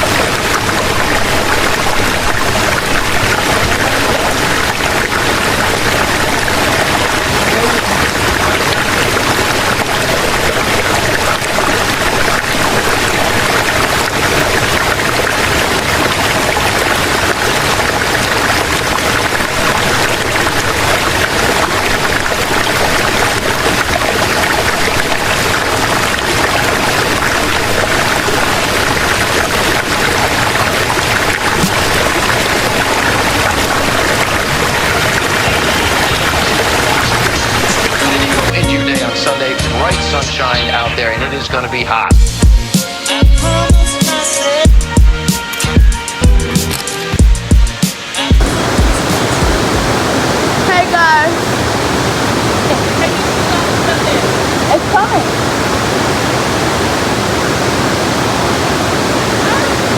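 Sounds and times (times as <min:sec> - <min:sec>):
waterfall roaring: 0:00.0 - 0:42.0, 0:48.0 - 0:59.9.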